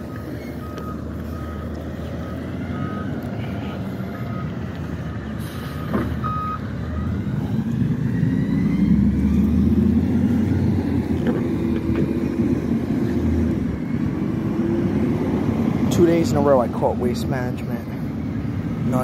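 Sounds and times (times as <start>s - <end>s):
truck backup alarm beeping: 0.0s - 16.6s
truck engine revving: 0.0s - 19.0s.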